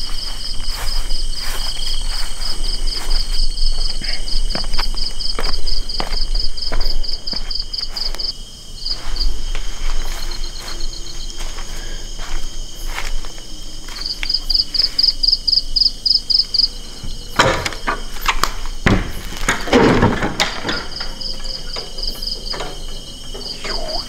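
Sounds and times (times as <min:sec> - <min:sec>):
footsteps: 0:00.0 - 0:24.0
high insect drone: 0:00.0 - 0:24.0
insects chirping in rapid pulses: 0:00.0 - 0:24.0.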